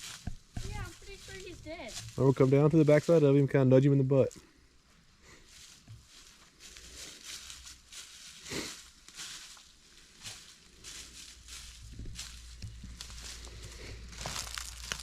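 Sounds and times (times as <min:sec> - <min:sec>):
footsteps crunching dry leaves: 0:00.0 - 0:03.5, 0:05.3 - 0:15.0.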